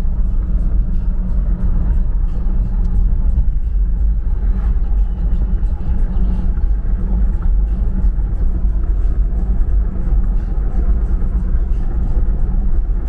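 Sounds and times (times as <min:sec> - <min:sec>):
tyres and engine rumbling: 0:00.0 - 0:13.0.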